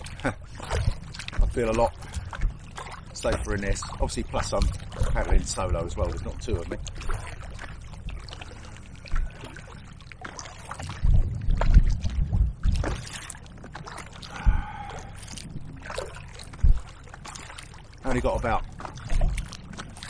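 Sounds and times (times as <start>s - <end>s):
paddle strokes: 0.0s - 20.0s
waves slapping against kayak hull: 0.0s - 20.0s
wind rumbling on microphone: 0.0s - 20.0s.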